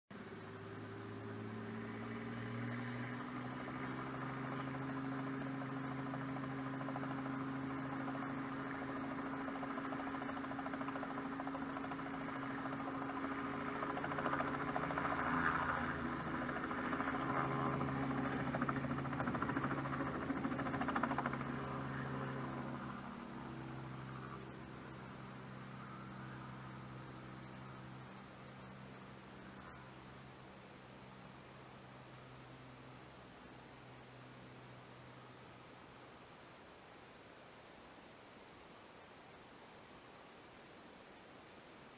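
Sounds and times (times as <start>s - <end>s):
muffled helicopter engine and rotor: 0.2s - 35.7s.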